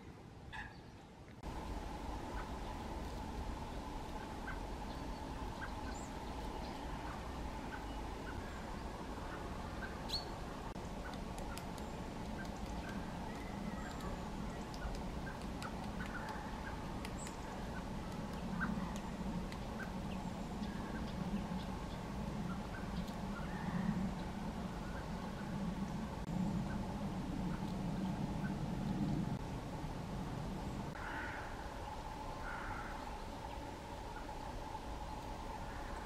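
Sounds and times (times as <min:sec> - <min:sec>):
low background rumble: 0:00.0 - 0:36.0.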